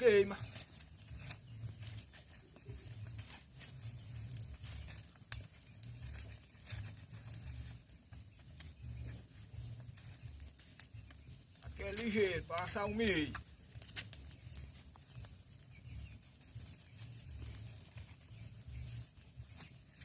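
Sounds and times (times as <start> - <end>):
bonfire popping: 0.0 - 20.0
crickets chirping: 0.0 - 20.0.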